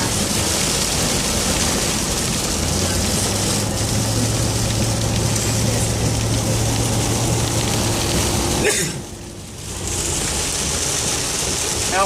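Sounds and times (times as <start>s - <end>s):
engine and tyres droning: 0.0s - 12.0s
rain hissing on car and road: 0.0s - 12.0s.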